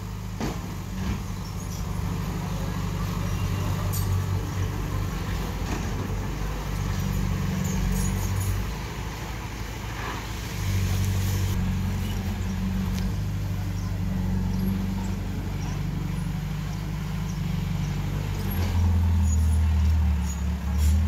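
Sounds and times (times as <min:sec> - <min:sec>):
heavy machinery diesel engine: 0:00.0 - 0:21.0.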